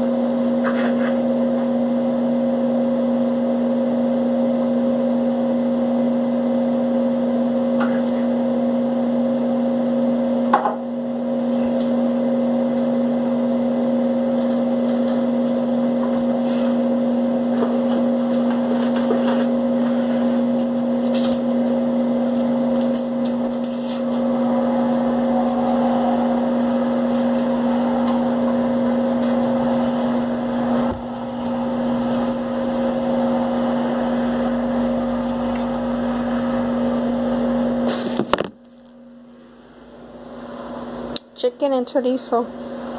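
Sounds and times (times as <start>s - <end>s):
loud low machine hum: 0.0s - 42.9s.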